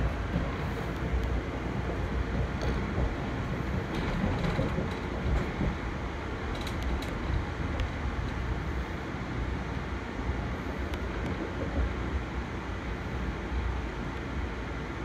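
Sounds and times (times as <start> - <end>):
train coach rumbling: 0.0 - 15.0.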